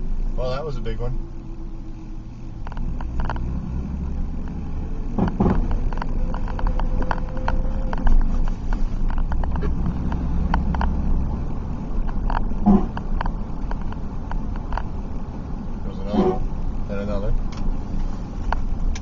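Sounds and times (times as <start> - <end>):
truck cab road rumble: 0.0 - 19.0.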